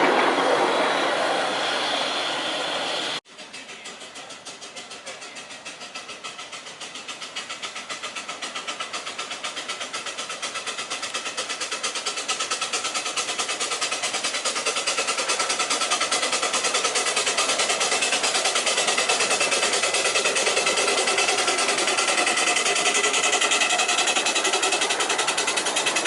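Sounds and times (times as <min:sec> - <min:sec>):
miniature train fast beat: 0:00.0 - 0:26.0.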